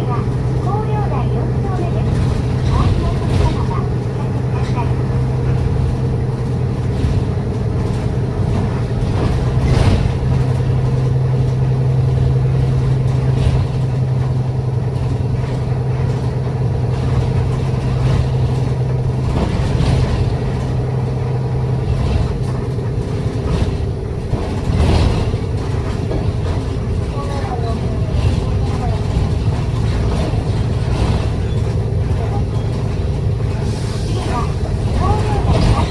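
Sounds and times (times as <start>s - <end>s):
bus engine drone: 0.0s - 35.9s
light rattles: 0.0s - 35.9s.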